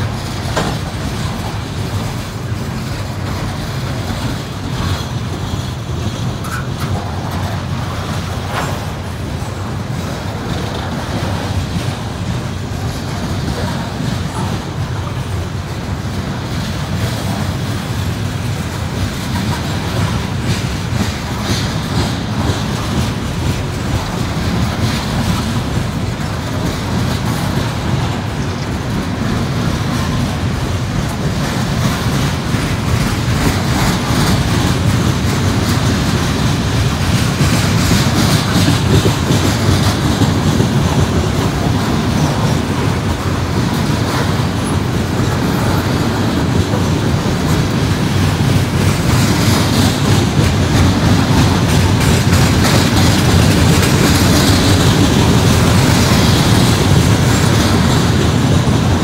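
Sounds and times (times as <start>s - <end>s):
train wheels rumbling over rails: 0.0s - 59.0s.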